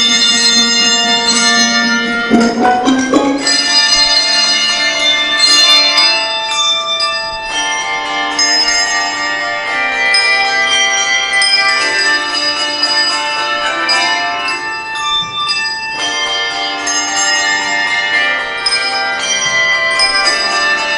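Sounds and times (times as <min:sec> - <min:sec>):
handbells ringing a melody: 0:00.0 - 0:20.9.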